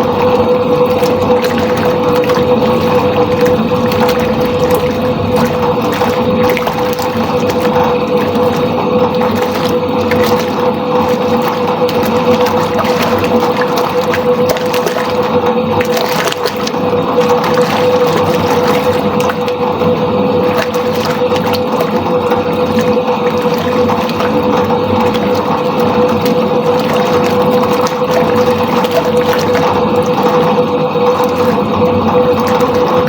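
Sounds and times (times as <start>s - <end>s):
washing machine motor hum: 0.0s - 33.0s
water churning and sloshing: 0.0s - 33.0s.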